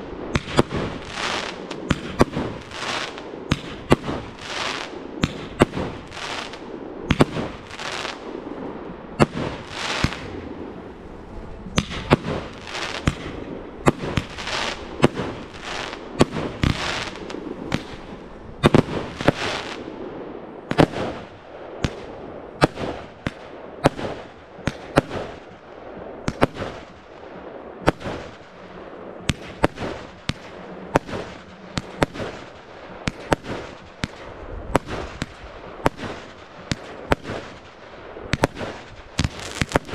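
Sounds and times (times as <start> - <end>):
fireworks crackling hiss: 0.0 - 24.1, 29.3 - 39.9
fireworks banging: 0.0 - 27.2, 27.8 - 39.9.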